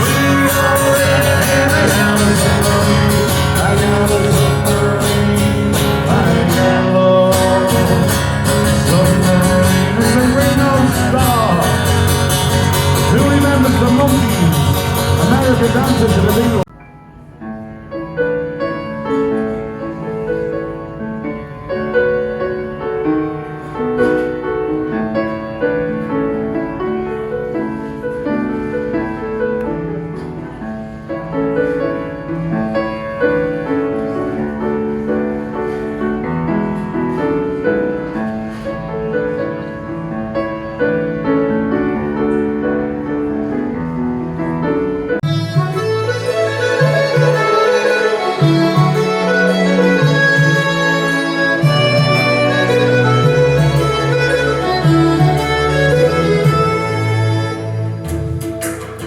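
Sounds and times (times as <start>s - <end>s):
piano melody: 0.0s - 59.0s.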